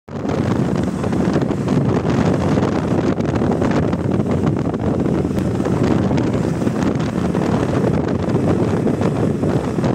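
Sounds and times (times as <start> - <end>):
wind buffeting microphone: 0.1 - 9.9.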